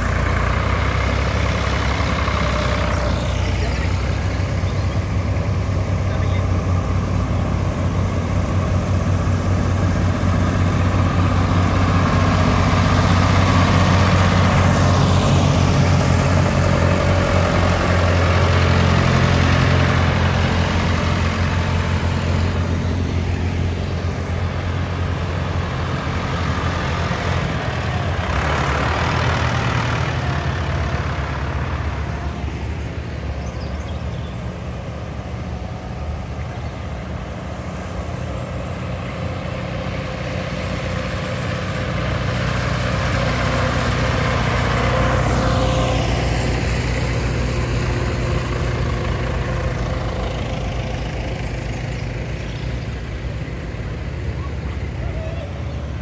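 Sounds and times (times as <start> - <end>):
tractors driving past: 0.0 - 56.0.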